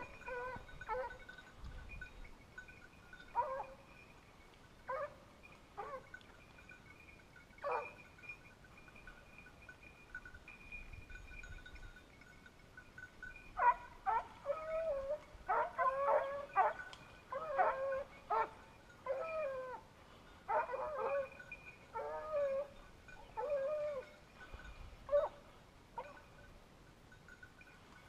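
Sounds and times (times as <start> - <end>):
hounds baying and yelping: 0.0 - 11.4, 13.0 - 26.5.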